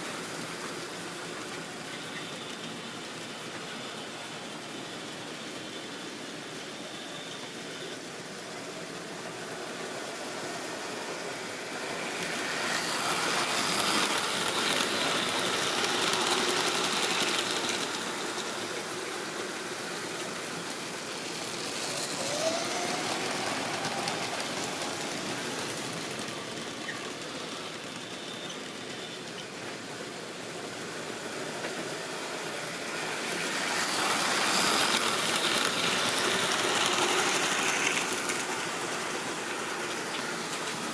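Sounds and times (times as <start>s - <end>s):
model train motor whirring: 0.0s - 40.9s.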